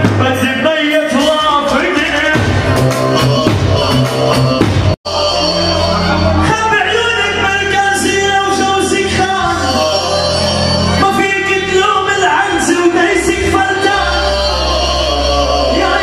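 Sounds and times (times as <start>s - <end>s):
heavy bass line: 0.0s - 16.0s
man singing pop music: 0.0s - 16.0s.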